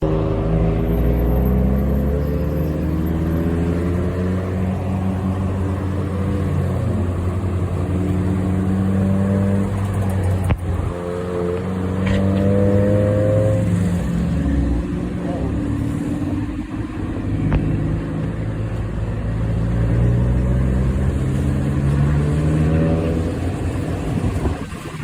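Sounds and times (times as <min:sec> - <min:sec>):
truck engine droning: 0:00.0 - 0:25.0.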